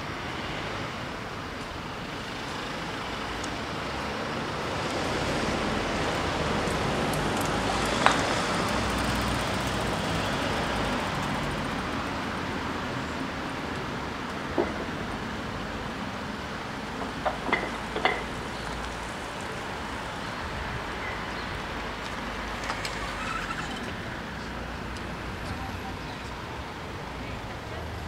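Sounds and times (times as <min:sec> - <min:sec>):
steady traffic noise: 0:00.0 - 0:28.0.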